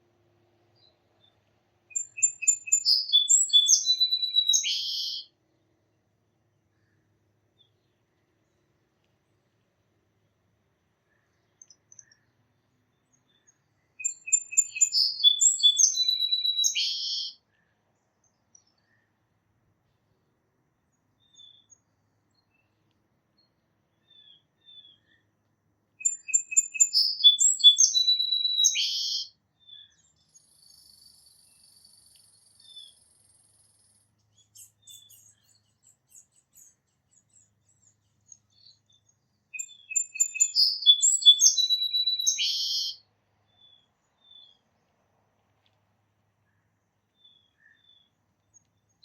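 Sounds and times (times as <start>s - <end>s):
songbird singing: 0.0s - 49.0s
faint bird chirps: 0.6s - 49.0s.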